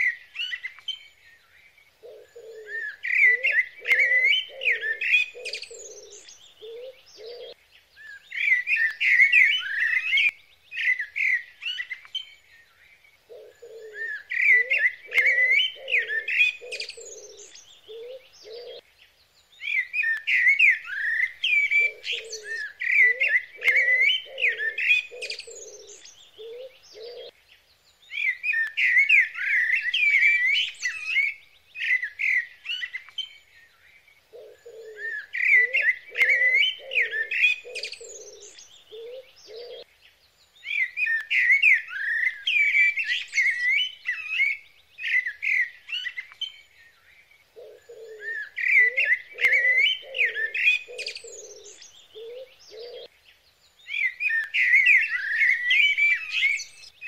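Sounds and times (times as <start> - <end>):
birds chirping and singing: 0.0 - 57.0
lower evenly paced bird notes: 0.0 - 57.0.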